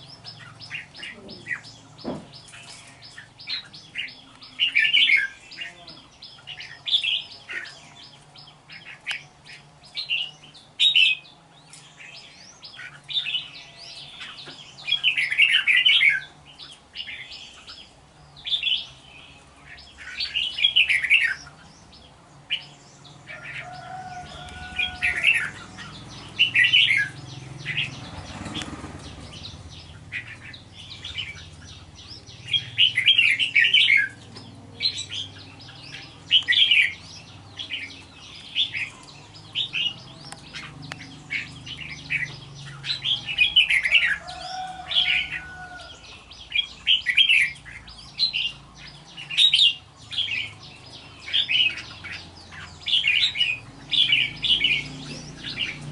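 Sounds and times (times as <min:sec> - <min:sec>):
bird chirpy song: 0:00.0 - 0:55.9.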